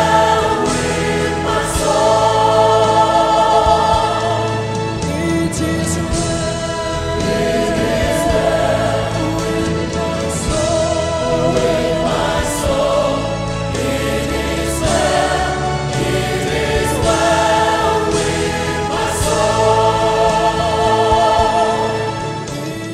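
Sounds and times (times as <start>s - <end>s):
choir singing: 0.0s - 22.9s
keyboard accompaniment: 0.0s - 22.9s.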